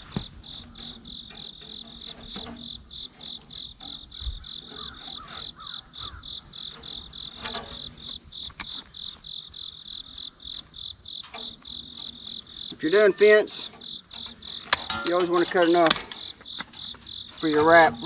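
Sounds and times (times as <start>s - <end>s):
high insect hiss: 0.0s - 18.0s
insects chirping rhythmically: 0.0s - 18.0s.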